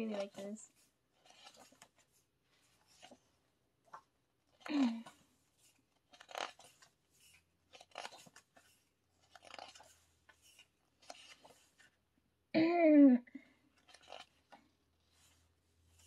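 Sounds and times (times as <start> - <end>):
paper pages rustling: 0.0 - 12.0, 13.7 - 16.0.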